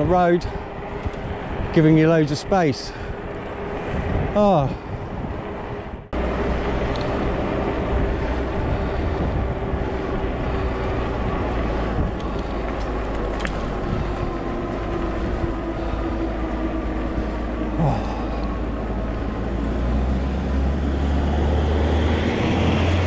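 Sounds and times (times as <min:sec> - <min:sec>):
tyre and wind rumble: 0:00.0 - 0:23.0.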